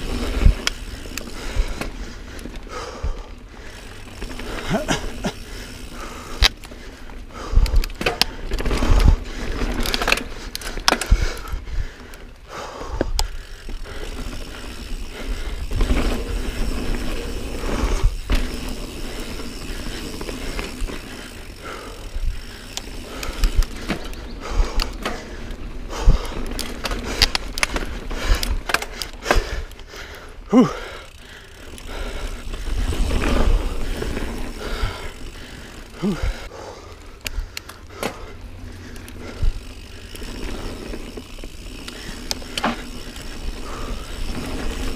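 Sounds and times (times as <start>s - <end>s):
bike rattles and knocks: 0.0s - 44.9s
bike tyres on dirt: 0.0s - 44.9s.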